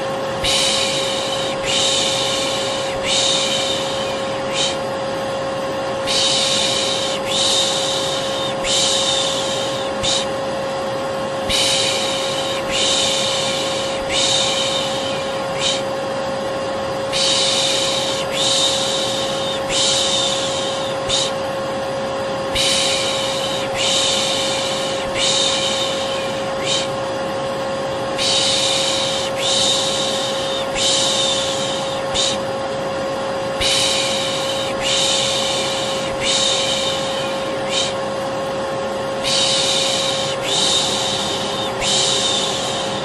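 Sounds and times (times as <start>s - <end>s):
vacuum cleaner humming: 0.0s - 43.0s
person shushing: 0.4s - 4.9s, 6.0s - 10.4s, 11.5s - 16.0s, 17.1s - 21.4s, 22.5s - 27.0s, 28.2s - 32.5s, 33.6s - 38.1s, 39.2s - 43.0s.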